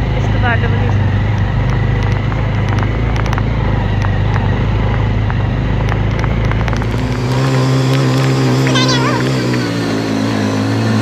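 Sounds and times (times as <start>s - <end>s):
motorcycle engine and wind rumble: 0.0s - 11.0s.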